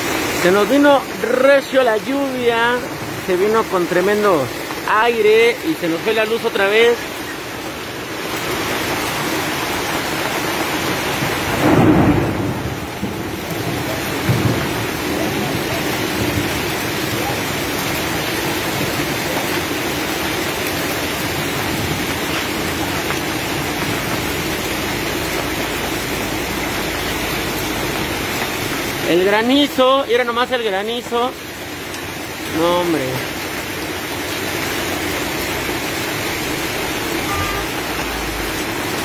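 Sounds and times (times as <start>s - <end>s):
heavy rain and hail pelting: 0.0s - 39.0s.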